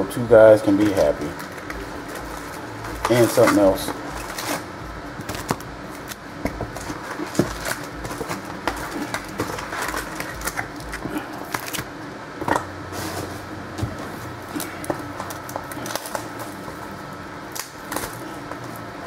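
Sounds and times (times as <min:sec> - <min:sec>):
foil wrappers crinkling: 0:00.5 - 0:13.4, 0:14.1 - 0:18.9.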